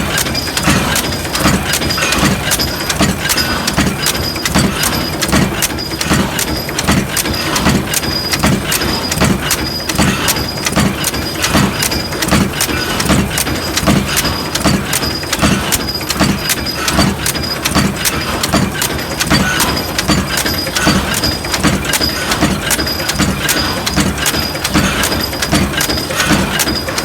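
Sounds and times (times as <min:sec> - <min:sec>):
forging machine knocking: 0:00.0 - 0:27.0
mechanical din: 0:00.0 - 0:27.0.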